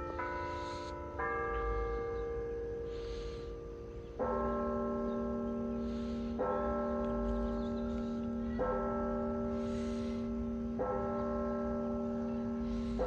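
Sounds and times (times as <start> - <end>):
deep church bell striking: 0.0 - 13.0
higher church bell ringing: 0.0 - 13.0.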